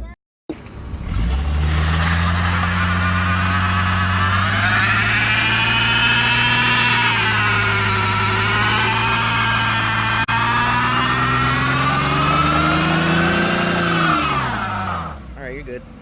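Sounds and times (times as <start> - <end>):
car engine humming: 0.5 - 16.0.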